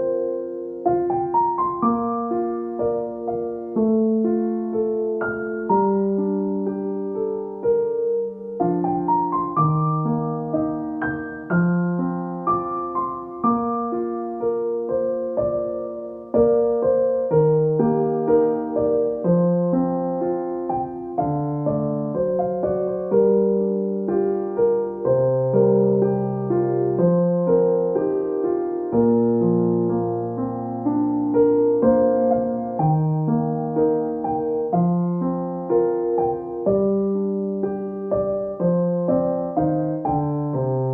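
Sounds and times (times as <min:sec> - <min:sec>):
gentle piano music: 0:00.0 - 0:40.9.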